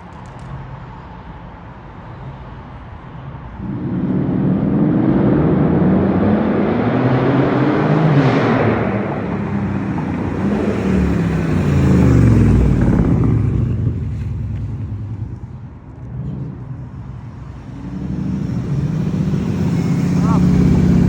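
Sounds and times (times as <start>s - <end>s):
car engine and exhaust: 0.0s - 21.0s.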